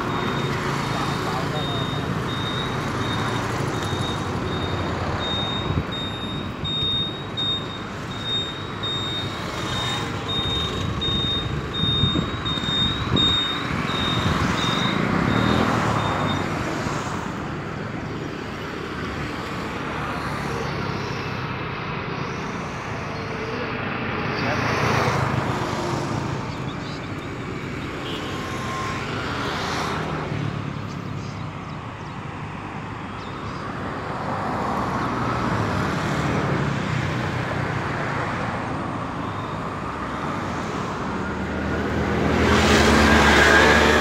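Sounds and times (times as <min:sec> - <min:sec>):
road traffic noise: 0:00.0 - 0:44.0.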